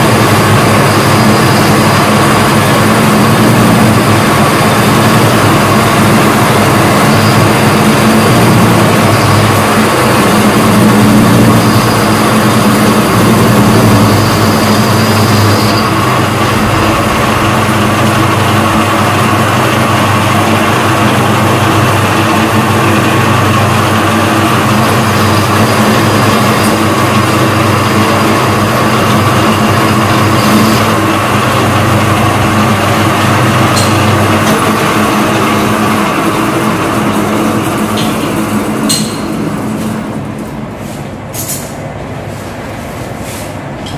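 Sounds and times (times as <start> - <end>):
thin high whine: 0.0 - 41.7
lathe machine hum: 0.0 - 43.9.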